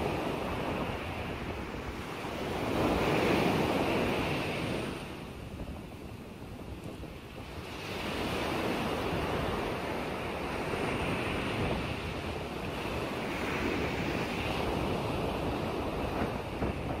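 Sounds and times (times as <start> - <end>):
lake waves washing: 0.0 - 17.0
wind on microphone: 0.0 - 17.0.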